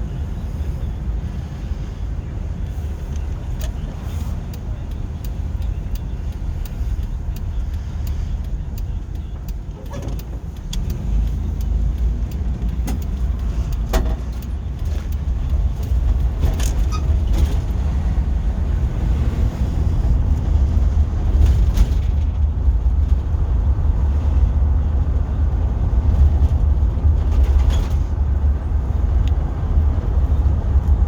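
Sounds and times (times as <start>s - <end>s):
car interior road rumble: 0.0s - 31.0s.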